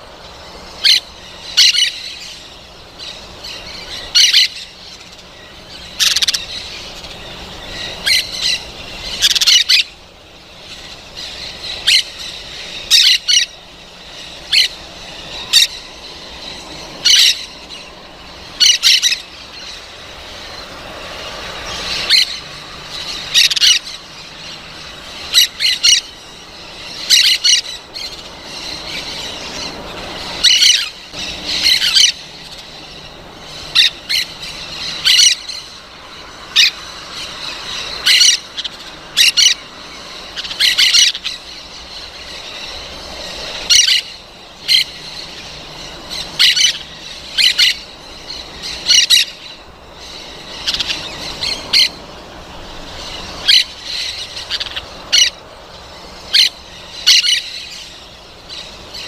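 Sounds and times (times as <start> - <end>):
parrot squawking: 0.6 - 2.5, 3.1 - 10.0, 10.6 - 17.7, 18.5 - 20.6, 21.7 - 35.7, 36.5 - 52.1, 52.8 - 55.4, 56.2 - 59.0.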